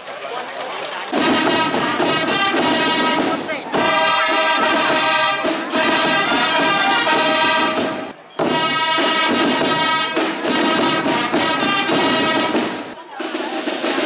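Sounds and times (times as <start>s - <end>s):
brass band playing fanfare: 1.1s - 14.0s.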